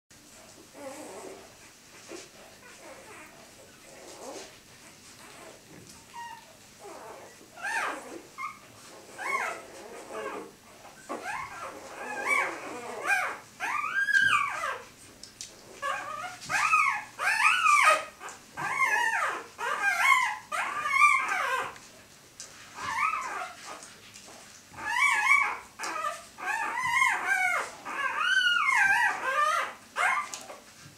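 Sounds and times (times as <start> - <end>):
puppies whining and squeaking: 0.2 - 30.9.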